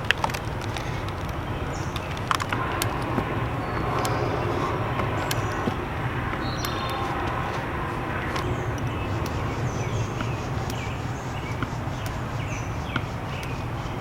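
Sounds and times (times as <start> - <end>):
sharp clicks: 0.0 - 14.0
steady low rumble: 0.0 - 14.0
small bird chirping: 0.3 - 14.0.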